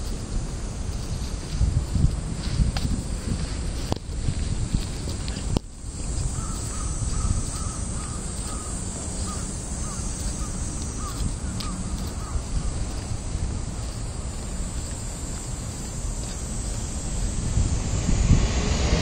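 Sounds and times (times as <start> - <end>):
road traffic rumble: 0.0 - 19.0
wind on microphone: 0.0 - 19.0.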